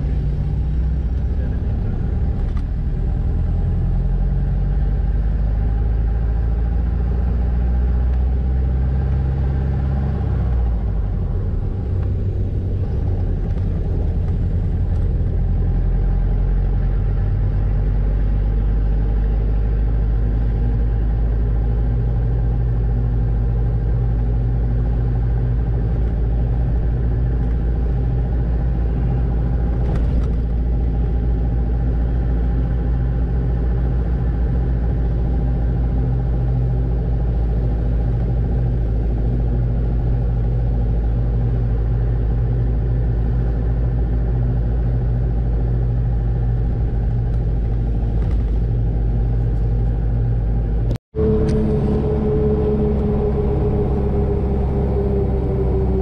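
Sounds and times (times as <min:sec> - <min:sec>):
tyres rumbling on dirt road: 0:00.0 - 0:56.0
vehicle engine running: 0:00.0 - 0:56.0.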